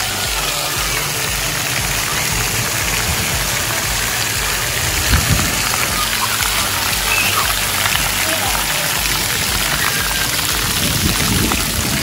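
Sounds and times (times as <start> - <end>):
low bumps: 0.0 - 12.0
water jets spraying: 0.0 - 12.0.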